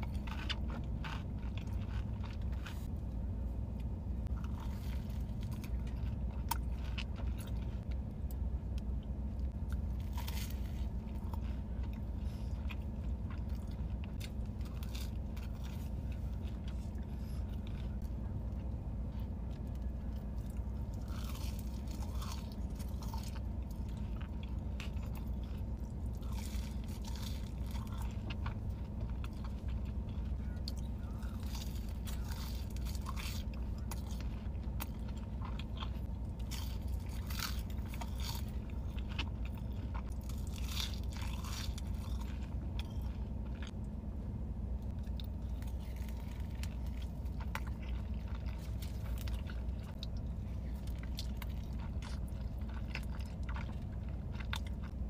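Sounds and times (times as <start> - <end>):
food crunches: 0.0 - 2.9, 4.2 - 8.8, 9.5 - 18.8, 19.4 - 43.9, 44.9 - 55.0
person chewing: 0.0 - 44.1, 44.8 - 55.0.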